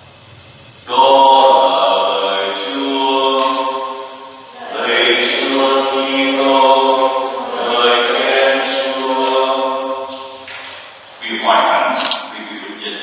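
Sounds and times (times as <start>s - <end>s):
slow liturgical chant: 0.8s - 13.0s.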